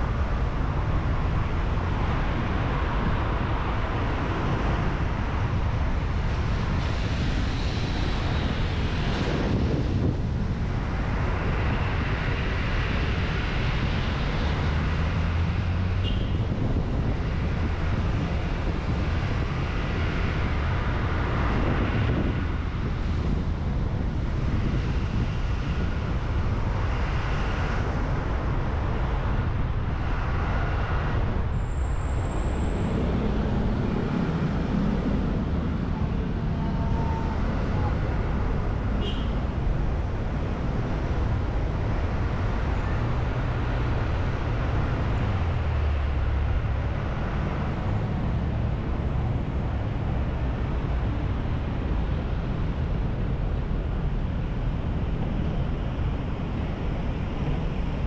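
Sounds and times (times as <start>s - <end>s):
passing traffic: 0.0s - 58.0s
road and engine rumble: 0.0s - 58.0s.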